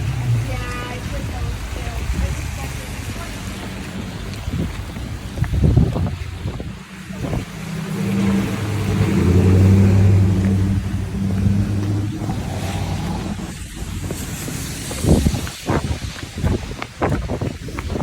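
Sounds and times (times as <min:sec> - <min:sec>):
vehicle engine humming: 0:00.0 - 0:16.1.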